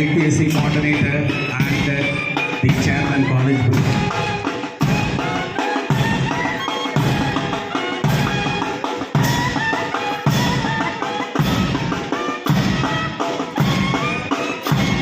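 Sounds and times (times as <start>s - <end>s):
heavy bass drum beat: 0.0s - 15.0s
march melody of held notes: 0.0s - 15.0s
snare drums: 0.0s - 15.0s.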